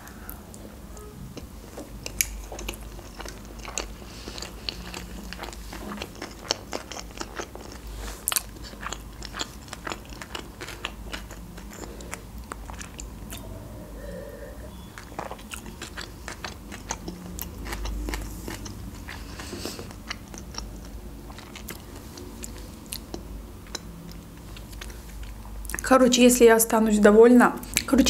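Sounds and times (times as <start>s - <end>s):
person chewing food: 0.0s - 25.8s.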